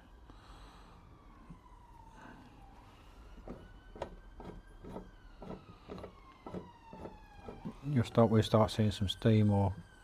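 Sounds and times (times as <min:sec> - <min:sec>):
faint wailing tone: 0:00.9 - 0:10.0.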